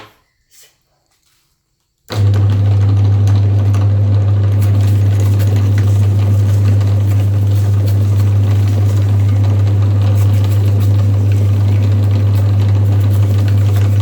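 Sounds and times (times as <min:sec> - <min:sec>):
electric meat grinder humming: 0:02.1 - 0:14.0.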